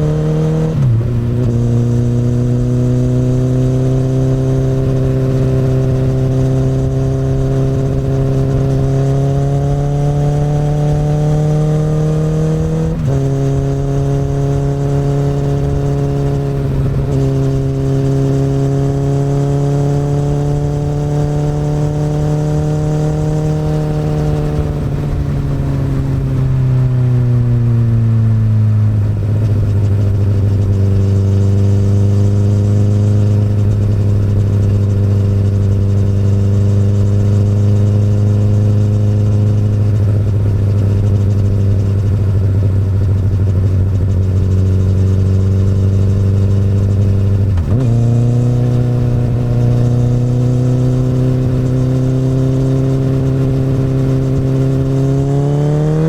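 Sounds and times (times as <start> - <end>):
motorcycle engine under way: 0.0 - 56.0.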